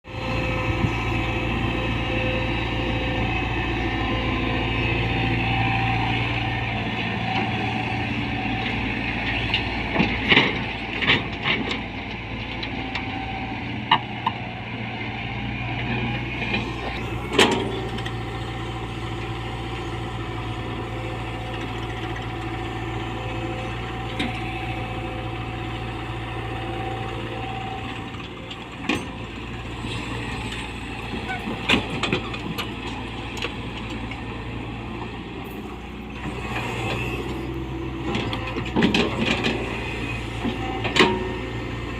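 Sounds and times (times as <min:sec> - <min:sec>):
excavator diesel engine running: 0:00.1 - 0:41.9.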